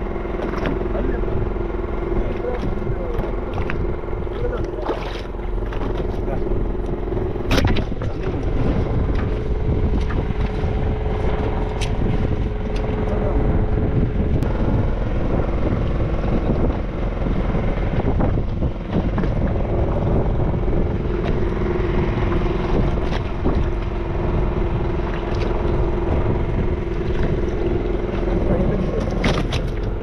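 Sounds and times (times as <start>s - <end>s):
boat engine rumble: 0.0s - 30.0s
steady hum: 0.0s - 30.0s.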